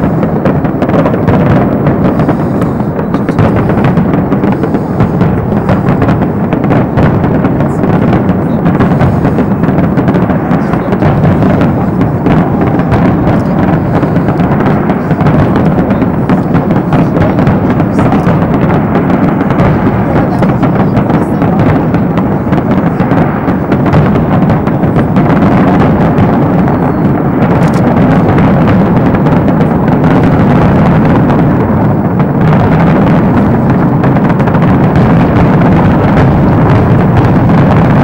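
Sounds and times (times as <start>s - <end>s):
fireworks booming and crackling: 0.0s - 38.0s.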